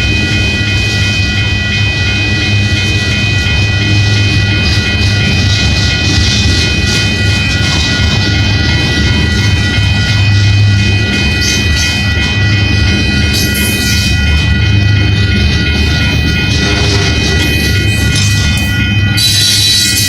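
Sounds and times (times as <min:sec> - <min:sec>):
high-pitched ringing tones: 0:00.0 - 0:20.0
train wheels rumbling on rail: 0:00.0 - 0:20.0.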